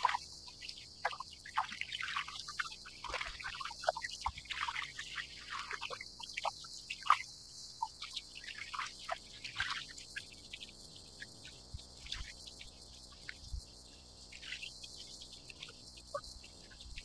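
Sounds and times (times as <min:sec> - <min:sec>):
cicadas chorus: 0:00.0 - 0:17.0
small waves lapping against hull: 0:00.0 - 0:17.0.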